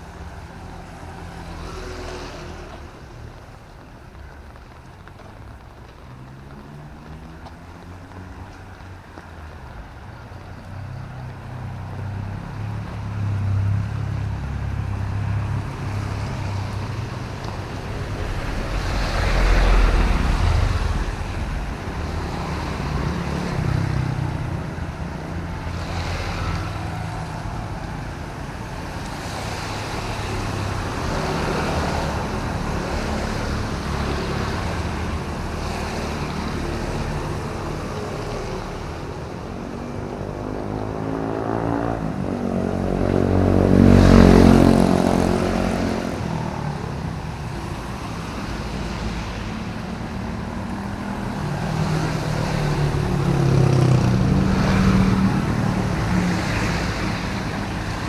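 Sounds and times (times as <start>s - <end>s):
engine rumble of traffic: 0.0s - 58.0s
tyres hissing on wet road: 0.0s - 58.0s.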